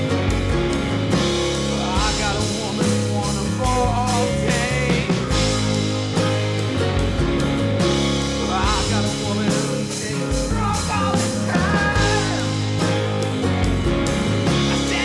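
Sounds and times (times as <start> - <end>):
rock and roll music: 0.0 - 15.0.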